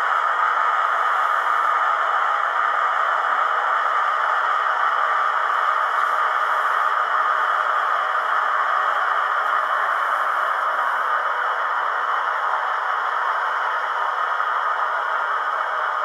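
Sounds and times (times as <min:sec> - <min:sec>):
model locomotive engine idling hum: 0:00.0 - 0:16.0.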